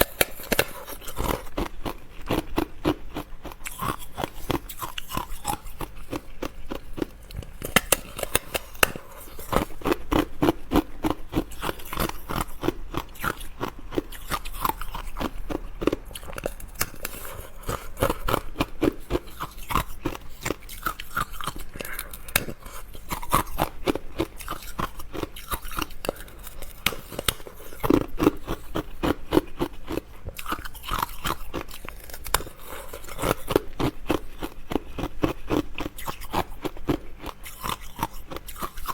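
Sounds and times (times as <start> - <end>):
chewing crisp biscuits: 0.0 - 38.9.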